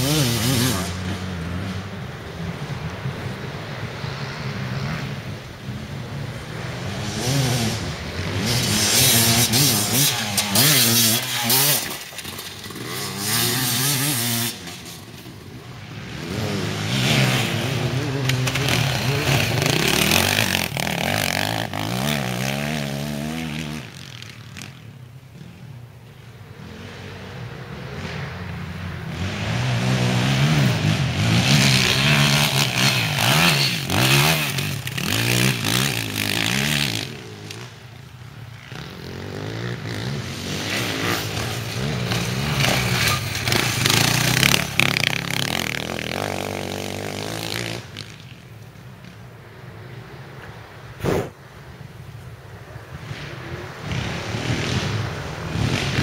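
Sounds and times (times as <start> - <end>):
motorcycles revving past: 0.0 - 51.4, 52.6 - 56.0.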